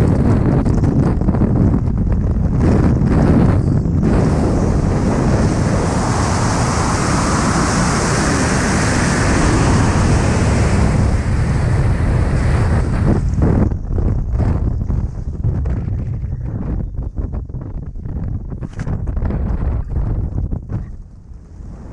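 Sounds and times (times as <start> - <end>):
wind roaring on microphone: 0.0 - 21.9.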